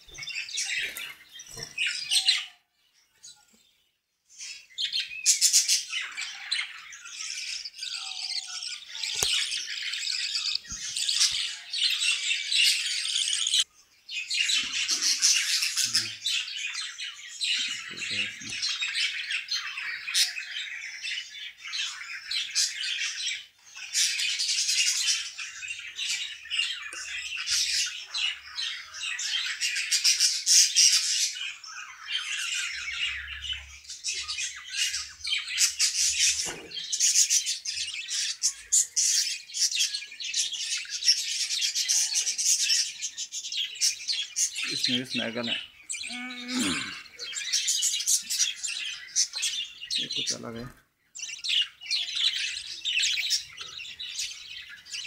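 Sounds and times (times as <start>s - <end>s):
budgerigars chattering and squawking: 4.4s - 55.0s.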